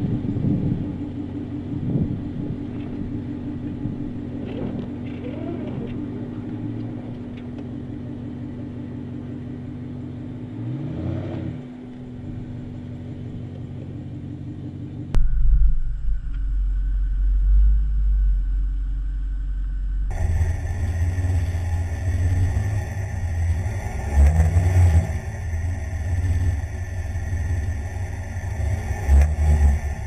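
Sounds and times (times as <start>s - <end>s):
engine running and revving: 0.0s - 15.2s, 16.2s - 30.0s.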